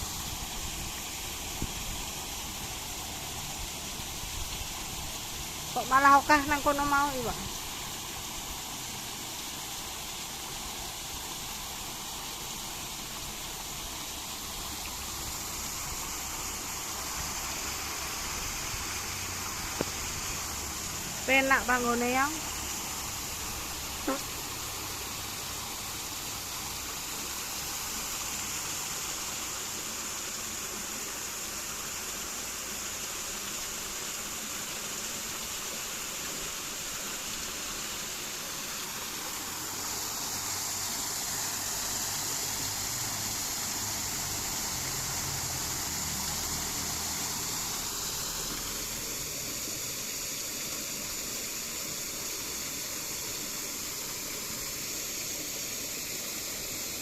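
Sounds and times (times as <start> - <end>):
flowing water rushing: 0.0 - 57.0.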